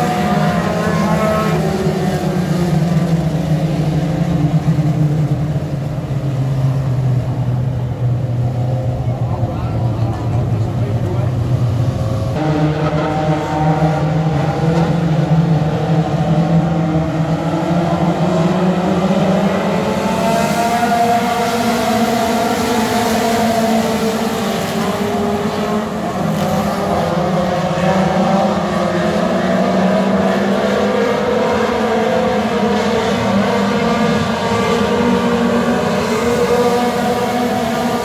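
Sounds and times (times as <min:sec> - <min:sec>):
race car engines: 0:00.0 - 0:38.0.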